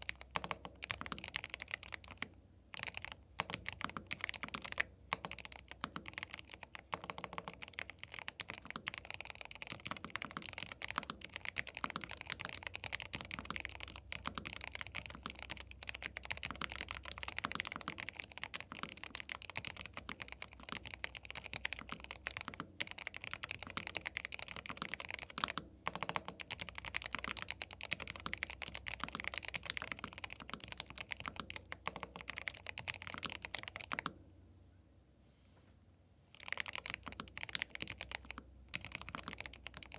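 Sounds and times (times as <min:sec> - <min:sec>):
mechanical keyboard typing: 0:00.0 - 0:34.1, 0:36.3 - 0:39.9.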